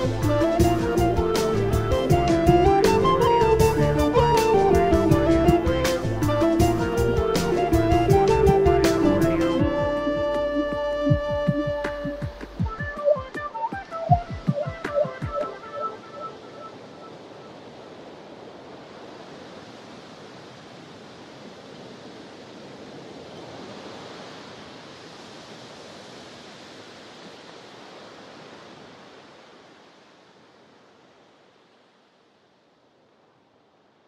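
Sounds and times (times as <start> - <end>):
sea waves washing: 0.0 - 31.8.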